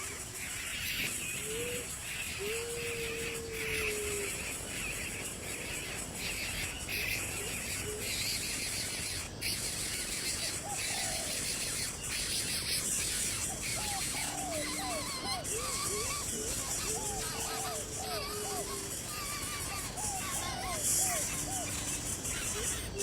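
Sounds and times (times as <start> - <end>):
insect buzz: 0.0 - 23.0.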